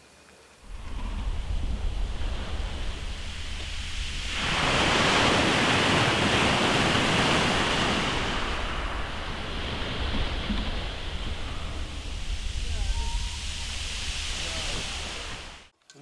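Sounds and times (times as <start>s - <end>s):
sea surf hissing: 0.6s - 15.7s
wind rumble on microphone: 0.6s - 15.7s.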